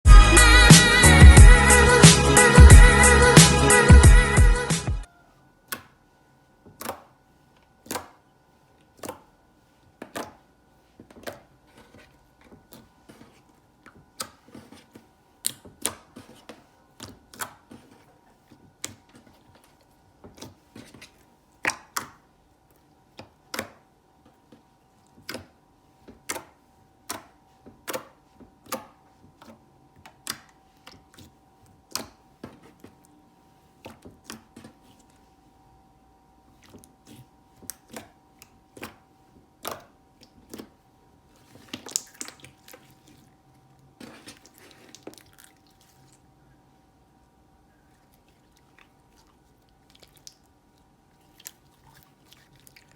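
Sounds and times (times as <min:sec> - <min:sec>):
faint steady hum: 0:00.1 - 0:52.9.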